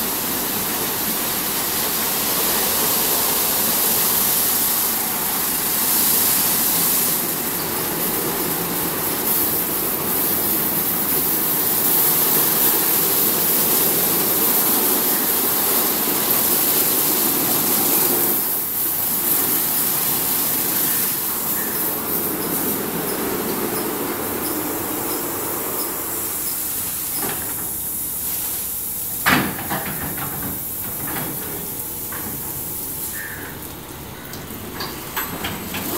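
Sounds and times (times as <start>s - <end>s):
car wash brushes and spray hissing: 0.0s - 35.9s.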